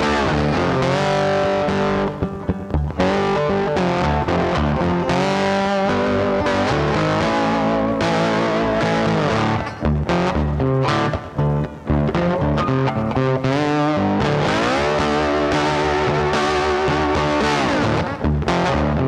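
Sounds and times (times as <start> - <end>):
distorted electric guitar music: 0.0 - 19.0.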